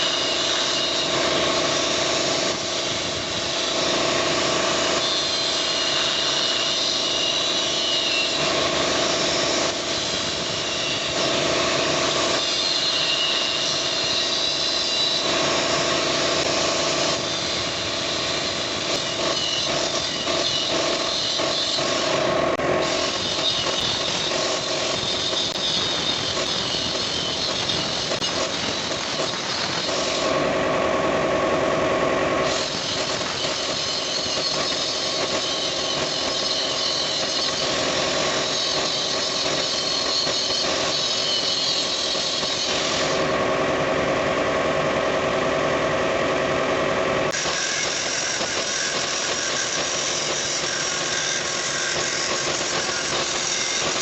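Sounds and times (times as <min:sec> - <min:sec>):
machine humming and whining: 0:00.0 - 0:54.0.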